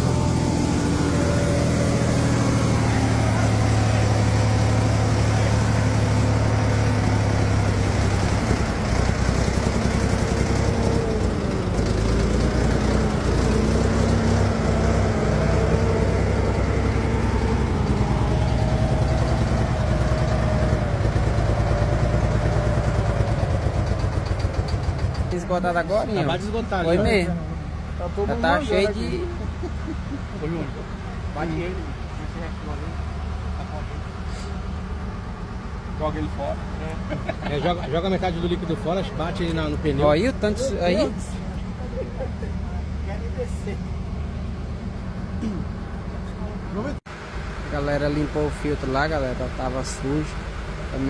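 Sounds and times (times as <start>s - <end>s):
truck diesel engine running: 0.0s - 51.0s.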